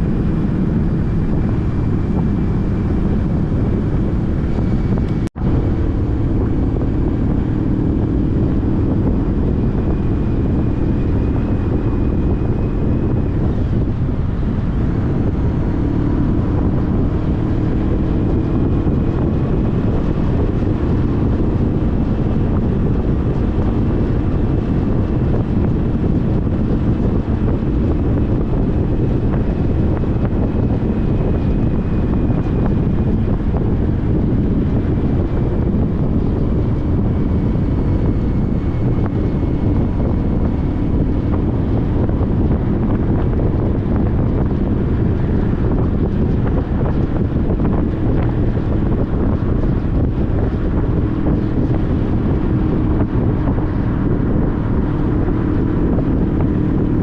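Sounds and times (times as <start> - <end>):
motorcycle engine hum: 0.0 - 57.0
wind rushing over microphone: 0.0 - 57.0.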